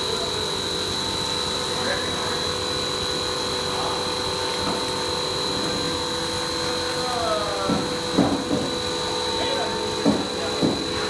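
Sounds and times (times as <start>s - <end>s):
high machine whine: 0.0s - 11.0s
low machine hum: 0.0s - 11.0s
machine running: 0.0s - 11.0s.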